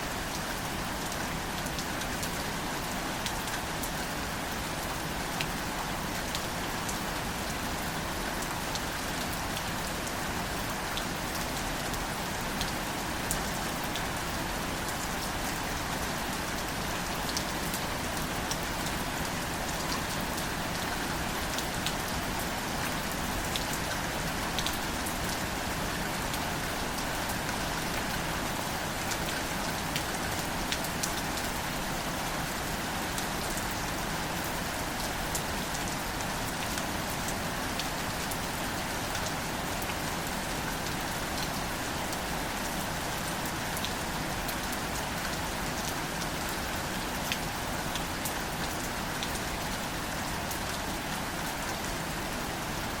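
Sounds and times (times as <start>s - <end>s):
gentle rain on foliage: 0.0s - 53.0s.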